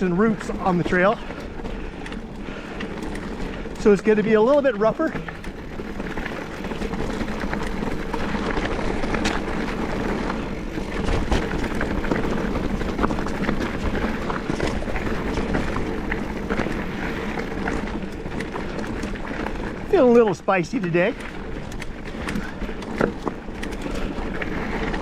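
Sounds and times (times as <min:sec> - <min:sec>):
bike clicks and rattles: 0:00.0 - 0:25.0
bike tyre noise on dirt: 0:00.0 - 0:25.0.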